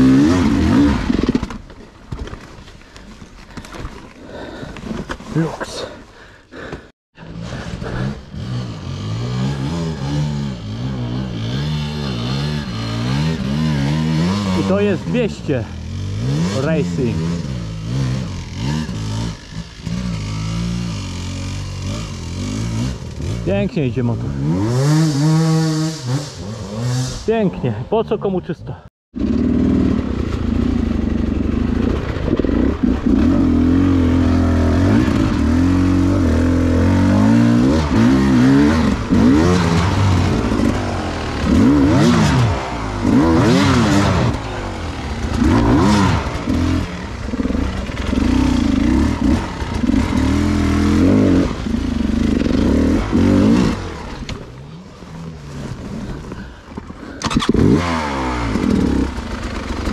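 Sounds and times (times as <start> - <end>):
motorcycle engine revving: 0.0 - 1.8, 6.6 - 27.4, 29.1 - 59.9.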